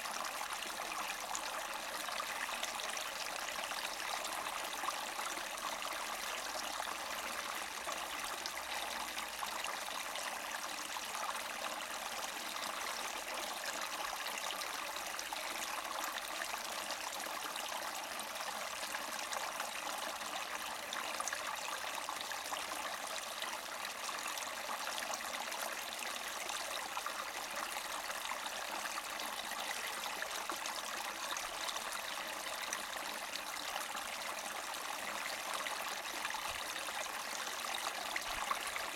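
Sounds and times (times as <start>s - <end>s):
brook gurgling over rocks: 0.0s - 38.9s.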